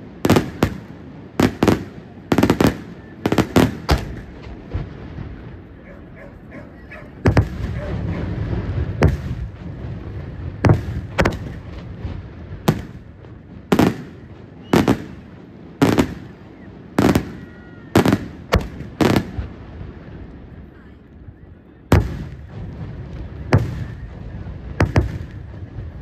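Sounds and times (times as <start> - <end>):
dense continuous rumble: 0.0 - 26.0.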